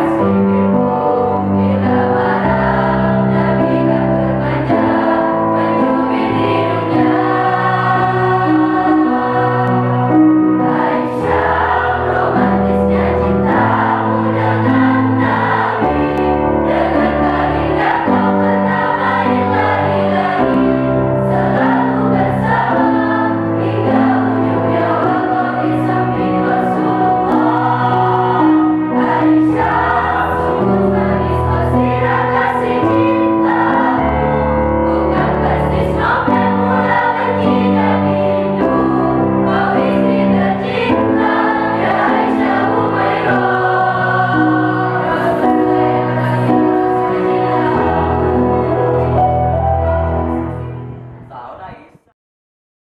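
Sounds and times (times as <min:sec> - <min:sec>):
mixed choir singing in harmony: 0:00.0 - 0:52.1.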